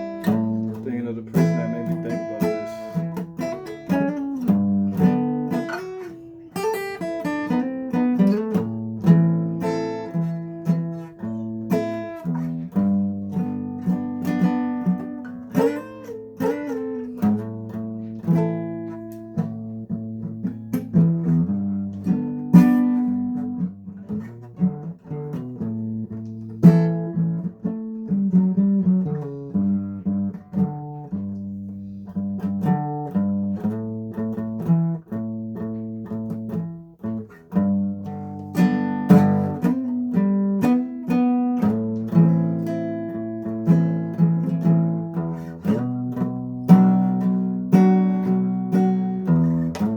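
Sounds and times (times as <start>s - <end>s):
guitar playing plucked notes: 0.0s - 49.9s.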